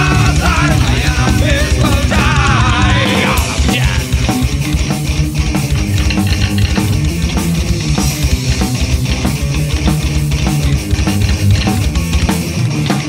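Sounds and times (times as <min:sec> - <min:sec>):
distorted electric guitars: 0:00.0 - 0:13.0
instrumental heavy metal: 0:00.0 - 0:13.0
steady drum beat: 0:00.0 - 0:13.0.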